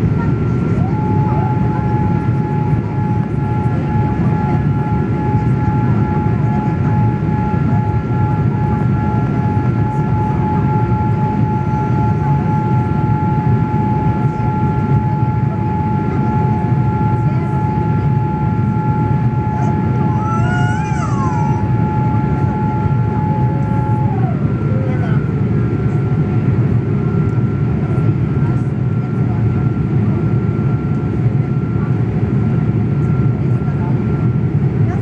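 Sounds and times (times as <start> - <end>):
aircraft engines and rushing air: 0.0 - 35.0.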